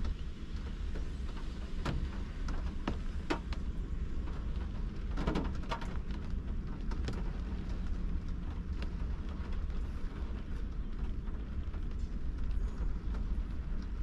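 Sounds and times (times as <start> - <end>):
rain drops tapping on car roof: 0.0 - 14.0
steady low rain rumble: 0.0 - 14.0.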